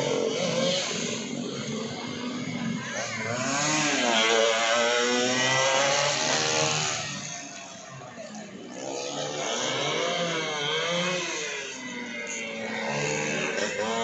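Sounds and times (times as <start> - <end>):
racing motorcycle passing at high revs: 0.0 - 14.0.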